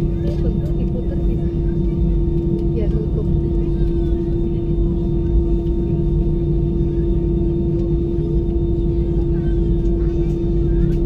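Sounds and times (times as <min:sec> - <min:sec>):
jet engines idling in cabin: 0:00.0 - 0:11.0.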